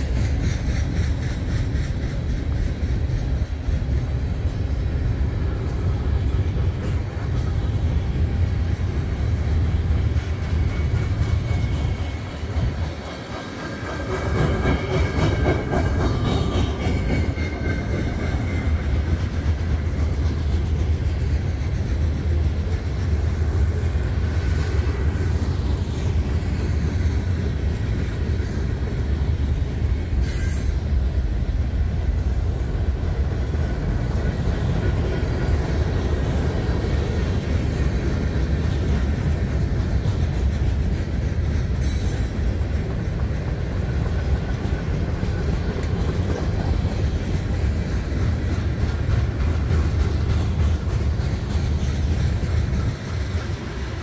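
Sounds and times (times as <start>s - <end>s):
freight cars rumbling on rails: 0.0s - 54.0s.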